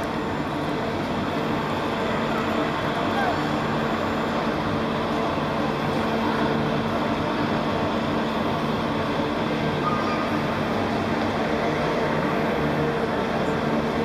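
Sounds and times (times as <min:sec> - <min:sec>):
hydraulic machine hum: 0:00.0 - 0:14.0.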